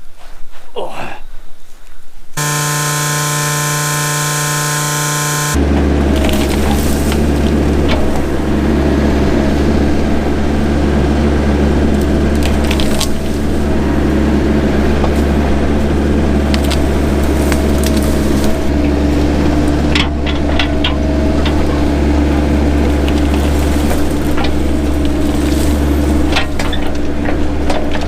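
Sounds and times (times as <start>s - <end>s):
mini excavator engine running: 2.4s - 28.0s
brush and branches snapping: 3.0s - 9.0s, 11.5s - 28.0s.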